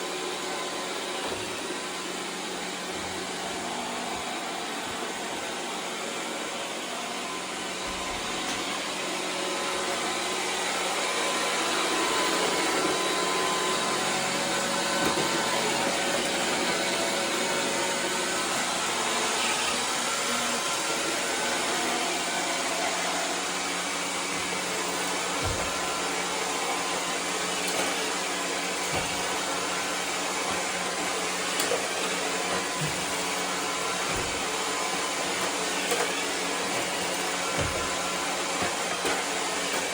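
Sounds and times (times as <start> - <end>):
robot vacuum whirring: 0.3 - 39.9.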